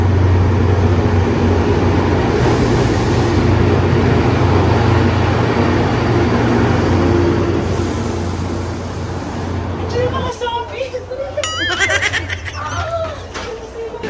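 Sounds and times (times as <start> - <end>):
road or rail noise: 0.0 - 14.0.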